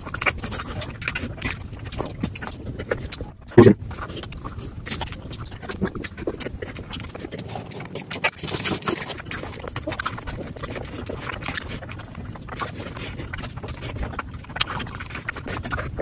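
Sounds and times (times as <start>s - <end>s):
mouth clicks: 0.0s - 16.0s
wet chewing and lip smacking: 0.0s - 16.0s.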